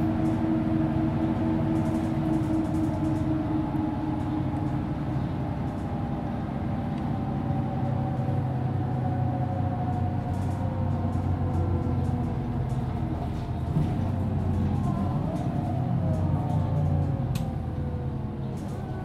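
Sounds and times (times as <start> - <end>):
bus diesel engine: 0.0 - 19.0
tyre and road noise: 0.0 - 19.0.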